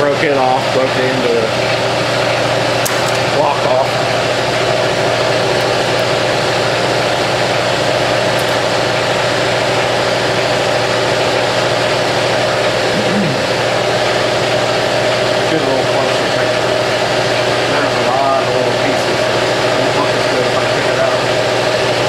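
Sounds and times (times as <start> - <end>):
motor humming steadily: 0.0 - 22.0.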